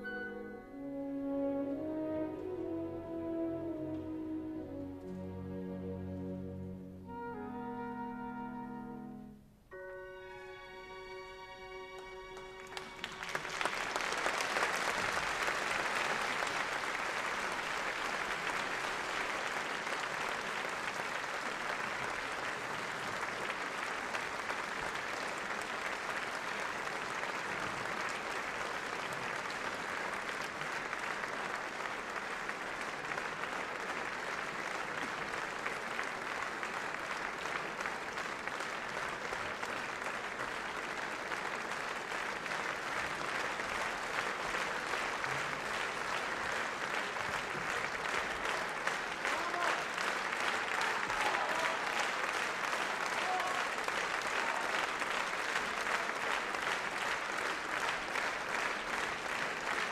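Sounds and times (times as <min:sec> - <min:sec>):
audience applauding: 0:12.0 - 0:59.9.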